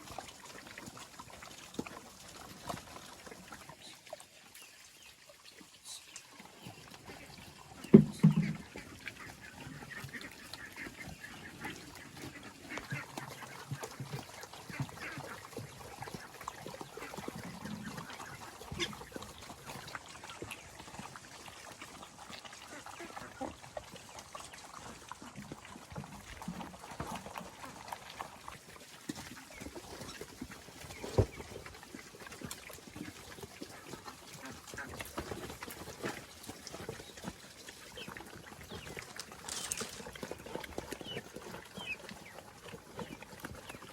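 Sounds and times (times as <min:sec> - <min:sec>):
farm animals calling: 0:00.0 - 0:43.9.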